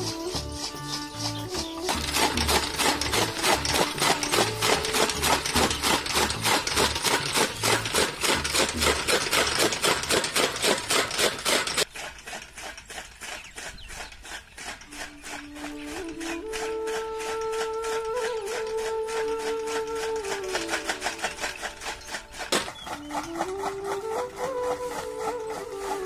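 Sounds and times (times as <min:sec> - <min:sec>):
chaff cutter chopping fodder: 0:00.0 - 0:26.0.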